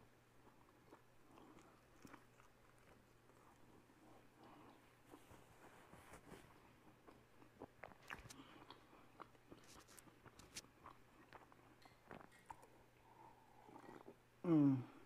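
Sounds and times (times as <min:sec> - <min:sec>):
faint chewing of a sandwich: 0:00.0 - 0:14.4.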